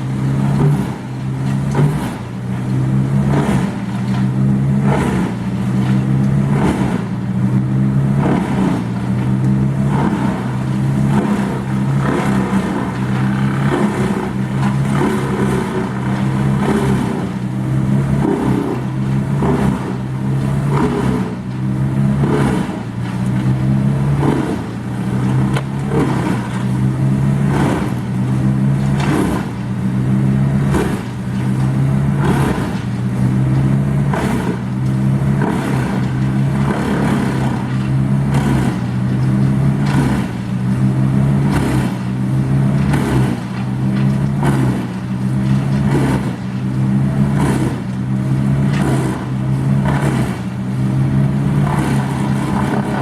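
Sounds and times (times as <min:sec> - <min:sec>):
large engine running under load: 0:00.0 - 0:53.0.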